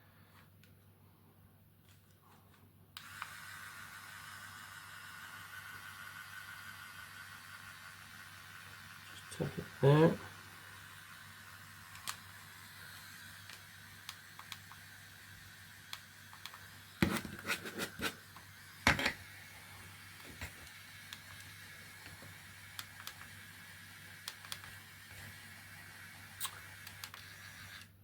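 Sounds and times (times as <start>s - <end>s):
pen faint steady hum: 2.1s - 28.0s.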